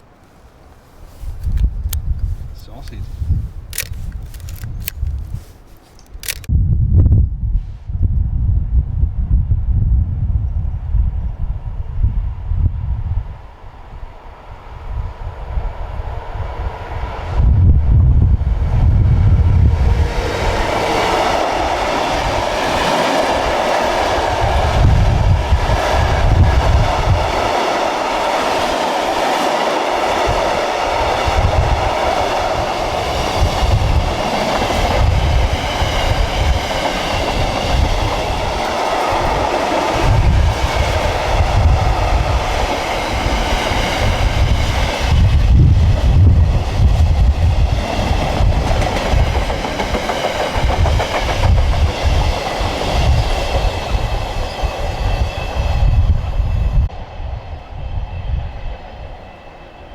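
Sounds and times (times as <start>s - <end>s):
wind buffeting microphone: 0.0s - 59.9s
diesel train passing: 8.4s - 59.9s.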